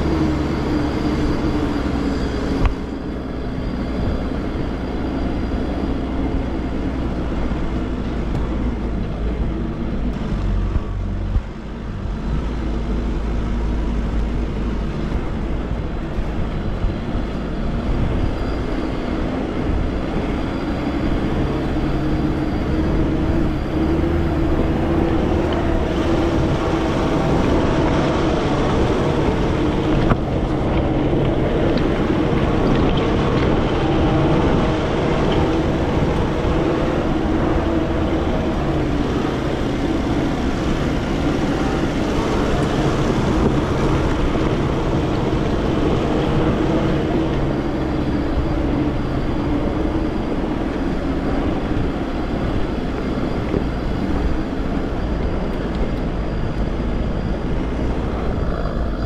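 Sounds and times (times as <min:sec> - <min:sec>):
engine running off-road: 0:00.0 - 0:59.0.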